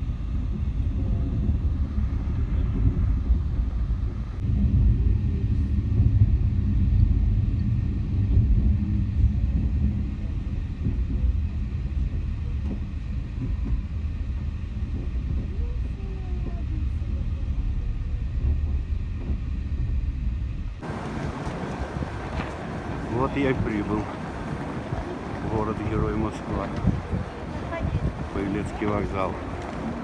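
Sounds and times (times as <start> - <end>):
train rumbling on rails: 0.0 - 30.0.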